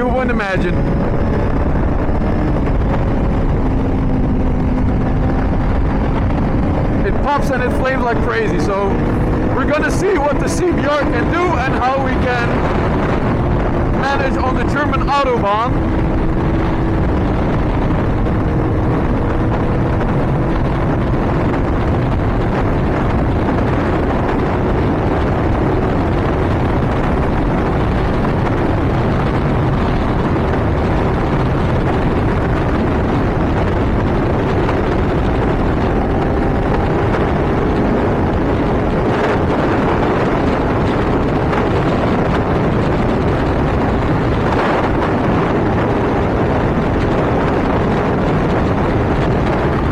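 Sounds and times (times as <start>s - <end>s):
motorcycle engine at high revs: 0.0s - 49.9s
wind rushing over microphone: 0.0s - 49.9s.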